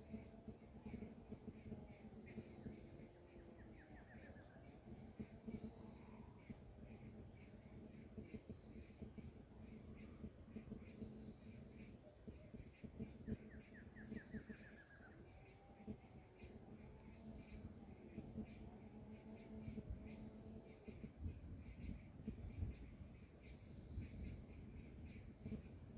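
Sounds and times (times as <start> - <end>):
insect chirping: 0.0 - 25.9.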